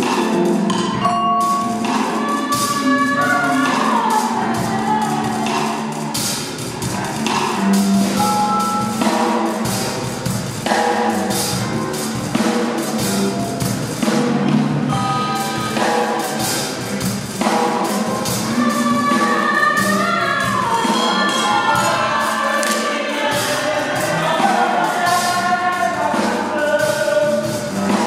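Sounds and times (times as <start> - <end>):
held pitched notes: 0.0 - 28.0
percussion strikes: 0.0 - 28.0
voices singing: 0.0 - 28.0.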